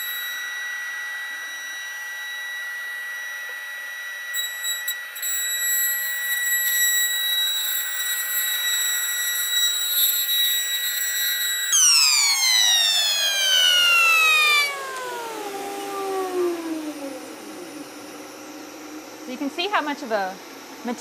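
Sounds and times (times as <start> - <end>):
router spindle whining: 0.0 - 21.0.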